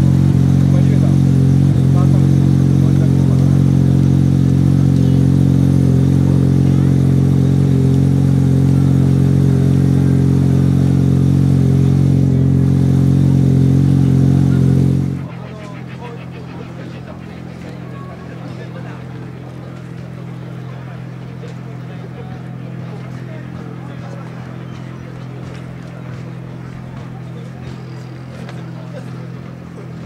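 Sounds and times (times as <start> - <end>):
rotary engine idling: 0.0 - 30.0.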